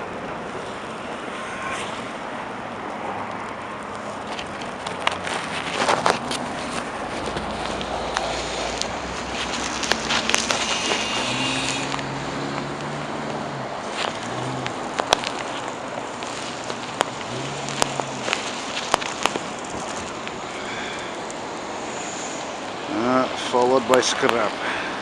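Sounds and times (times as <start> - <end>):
hiss of passing vehicles: 0.0 - 25.0
low vehicle hum: 0.0 - 25.0.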